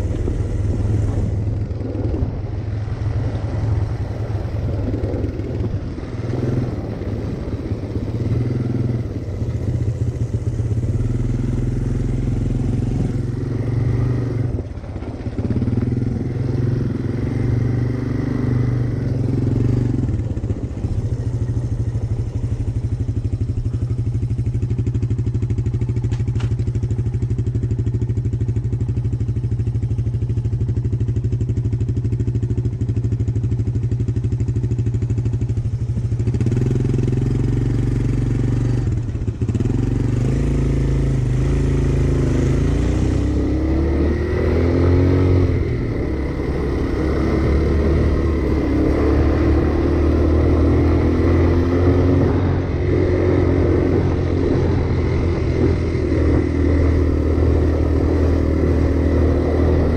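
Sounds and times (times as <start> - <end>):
three-wheeler engine revving: 0.0 - 59.9.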